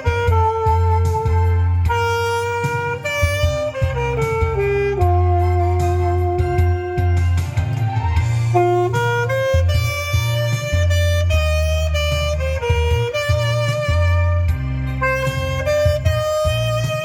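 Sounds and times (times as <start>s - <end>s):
saxophone melody: 0.0s - 17.0s
steady bass line: 0.0s - 17.0s.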